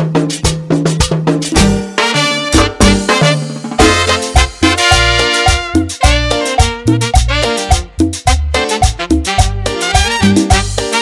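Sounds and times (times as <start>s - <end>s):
salsa band music: 0.0s - 11.0s
timbales and congas: 0.0s - 11.0s.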